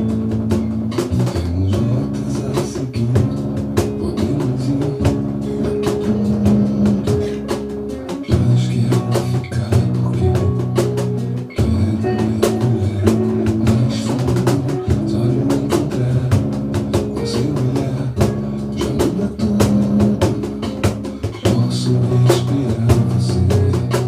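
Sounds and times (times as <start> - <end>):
sustained low tones: 0.0 - 24.0.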